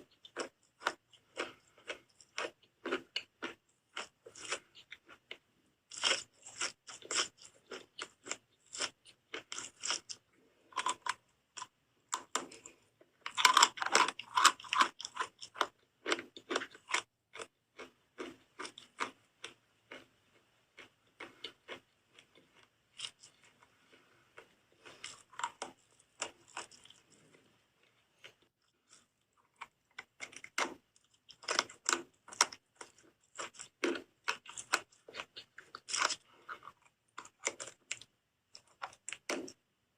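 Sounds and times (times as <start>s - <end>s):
person chewing crunchy soap: 0.0s - 39.7s.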